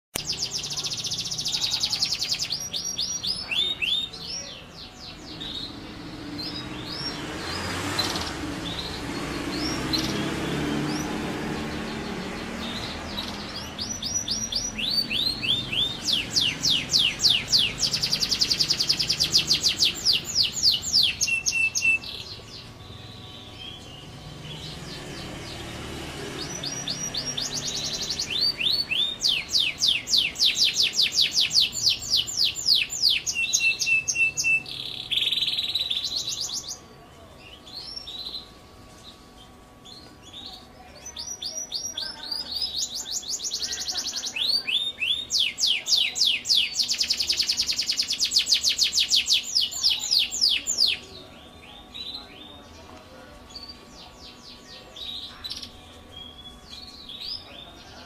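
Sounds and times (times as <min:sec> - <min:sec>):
canary trilling: 0:00.2 - 0:52.7.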